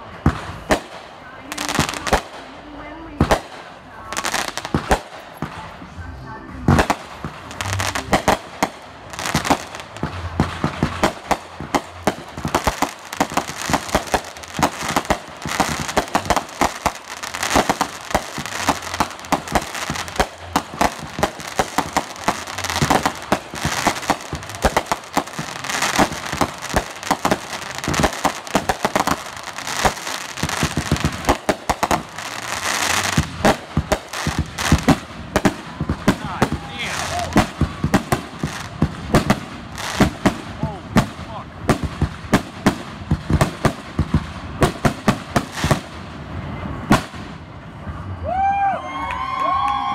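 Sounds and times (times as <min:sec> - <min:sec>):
fireworks bangs and crackles: 0:00.0 - 0:06.0, 0:06.6 - 0:48.2.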